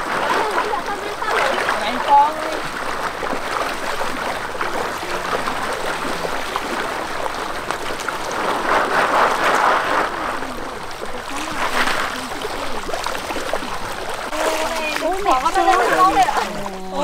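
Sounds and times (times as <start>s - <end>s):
people wading through water: 0.0s - 17.0s.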